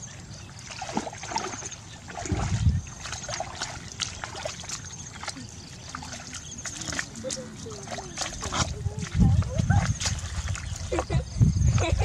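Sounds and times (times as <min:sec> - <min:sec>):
wading through muddy water: 0:00.0 - 0:12.0
feet squelching in mud: 0:00.6 - 0:11.2.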